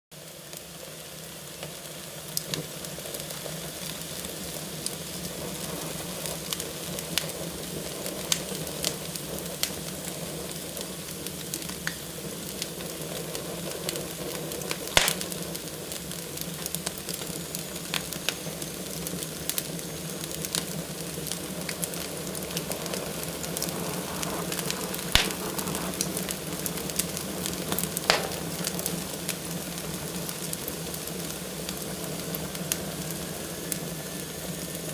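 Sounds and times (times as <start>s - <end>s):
fire crackling and popping: 0.2s - 34.9s
fire hissing: 0.2s - 34.9s.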